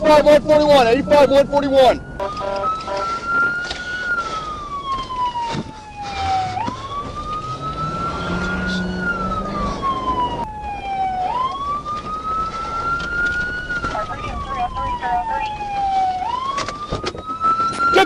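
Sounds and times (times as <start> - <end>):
emergency vehicle siren wailing: 0.0 - 18.0.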